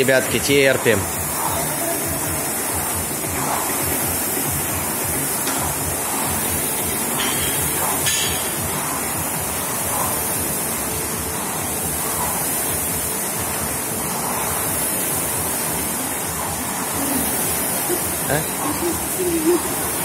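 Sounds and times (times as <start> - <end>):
rowing machine fans whooshing: 0.0 - 20.0.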